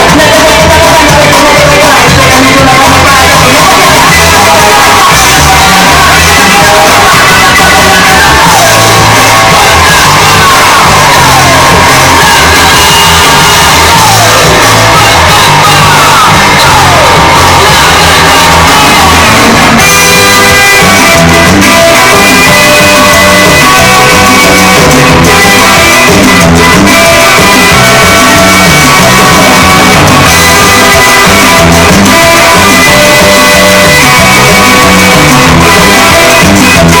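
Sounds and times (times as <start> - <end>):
loud dance music: 0.0 - 37.0.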